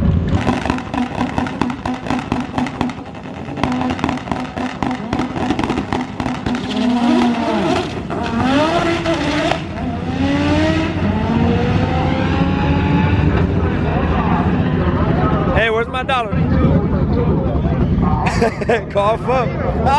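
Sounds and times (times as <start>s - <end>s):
race cars accelerating: 0.0s - 17.0s
race car engines popping: 0.0s - 19.9s.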